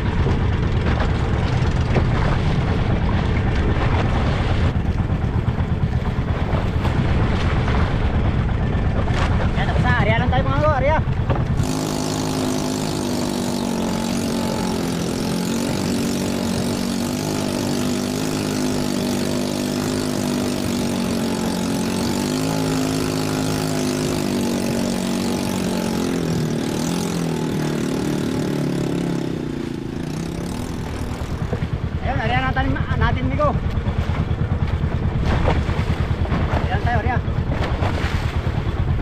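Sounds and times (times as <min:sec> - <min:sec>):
boat engine running: 0:00.0 - 0:39.0
rush of spray and wind: 0:00.0 - 0:39.0.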